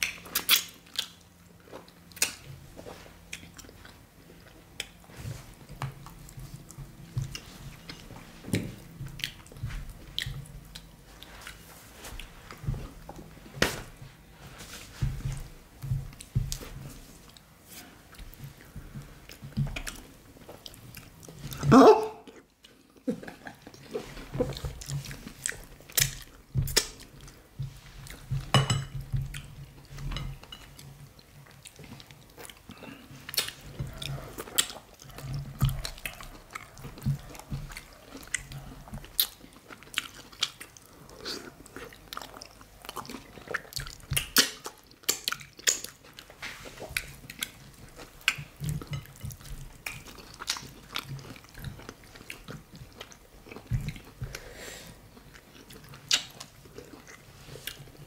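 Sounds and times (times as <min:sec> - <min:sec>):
people chewing with wet smacks: 0:00.0 - 0:58.0.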